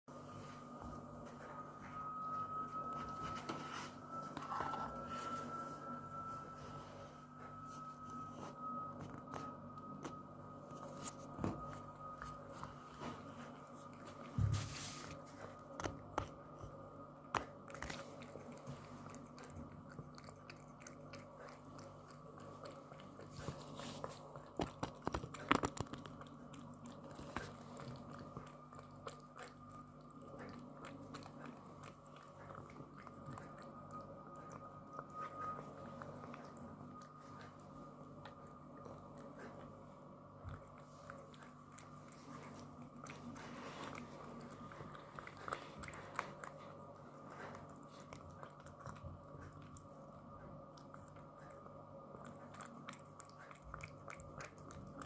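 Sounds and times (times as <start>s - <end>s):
faint steady hum: 0.1s - 55.0s
cat chewing crunchy food: 0.2s - 55.0s.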